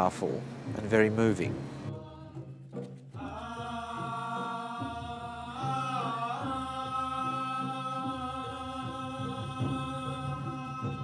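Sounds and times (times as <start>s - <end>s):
low pulsing musical accompaniment: 0.0s - 11.0s
chant-like singing: 1.7s - 11.0s.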